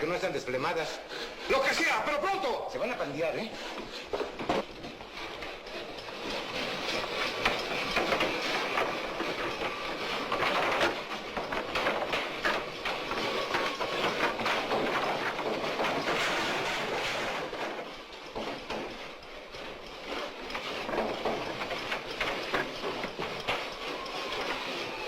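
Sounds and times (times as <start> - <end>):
wood clattering and rasping: 0.2 - 25.0.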